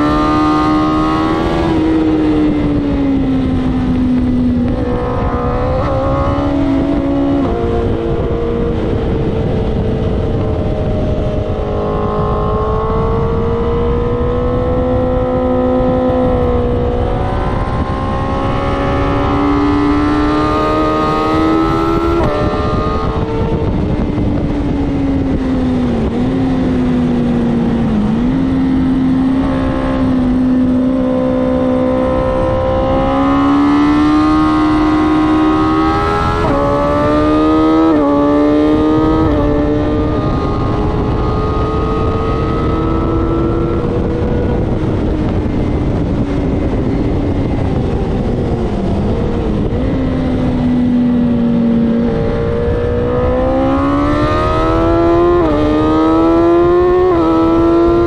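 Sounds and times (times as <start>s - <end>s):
motorcycle engine revving hard: 0.0s - 58.0s
wind rush on microphone: 0.0s - 58.0s.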